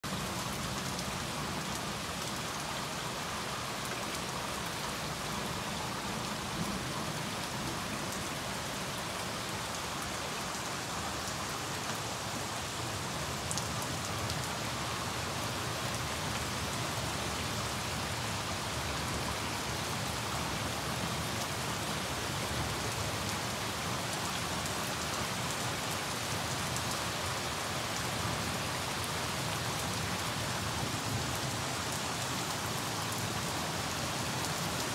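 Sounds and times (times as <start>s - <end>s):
heavy rain on pavement: 0.0s - 34.9s.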